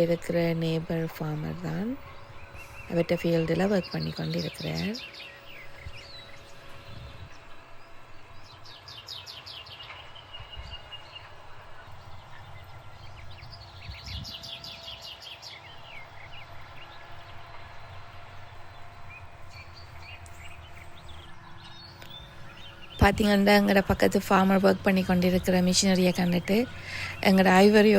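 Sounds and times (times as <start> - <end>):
farm machinery rumble: 0.0 - 27.9
songbirds trilling: 0.0 - 27.9.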